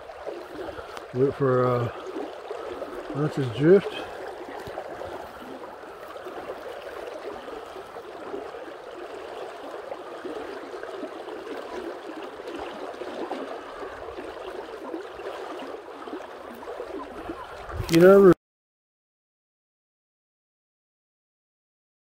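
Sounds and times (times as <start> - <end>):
river water rushing and gurgling: 0.0 - 18.4.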